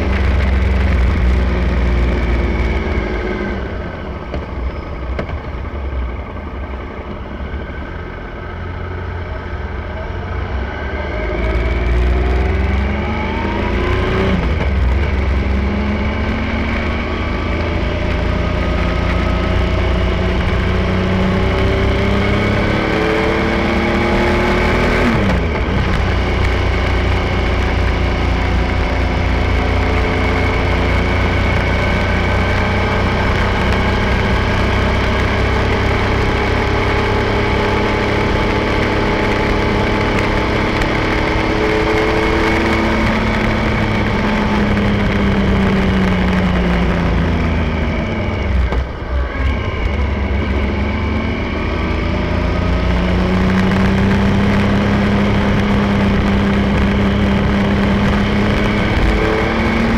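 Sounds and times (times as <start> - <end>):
low wind rumble: 0.0 - 59.9
motorcycle engine accelerating: 0.0 - 59.9.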